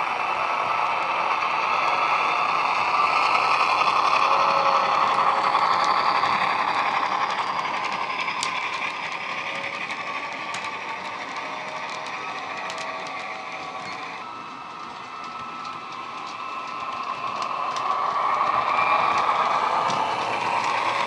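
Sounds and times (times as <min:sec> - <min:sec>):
wagon wheels clicking on track: 0:00.4 - 0:21.0.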